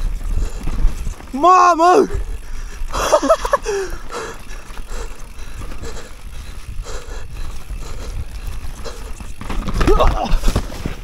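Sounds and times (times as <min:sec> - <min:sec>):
bike knocks and rattles: 0:00.0 - 0:11.0
bike tyres rolling over dirt and leaves: 0:00.0 - 0:11.0.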